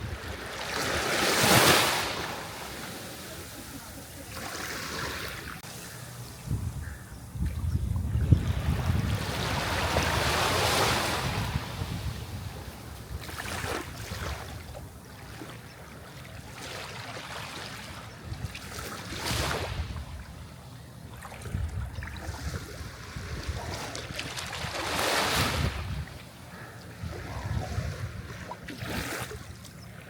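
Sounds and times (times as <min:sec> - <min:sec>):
sea waves breaking on shore: 0:00.0 - 0:06.0, 0:08.4 - 0:20.1, 0:22.2 - 0:26.0, 0:27.0 - 0:29.5.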